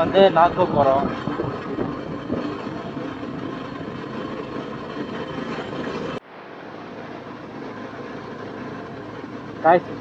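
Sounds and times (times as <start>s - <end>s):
motorcycle engine running: 0.0s - 6.2s, 7.0s - 10.0s
wind and road noise: 0.0s - 10.0s.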